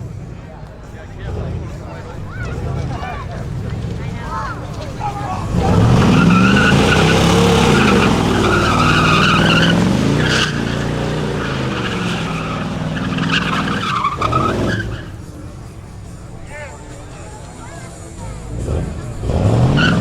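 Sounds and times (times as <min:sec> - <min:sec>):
car engine at high revs: 0:00.0 - 0:16.4, 0:18.2 - 0:20.0
tyres squealing: 0:00.0 - 0:20.0.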